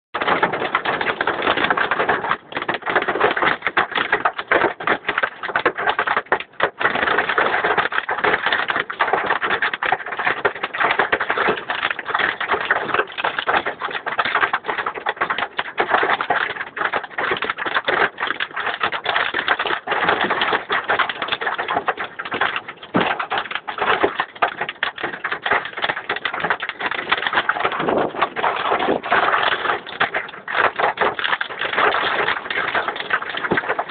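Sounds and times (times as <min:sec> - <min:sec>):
heavy rain and hail clattering: 0:00.2 - 0:33.9.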